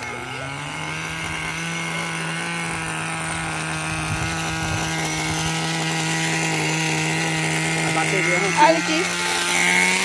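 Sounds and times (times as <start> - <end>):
small glow engine idling: 0.0 - 10.0.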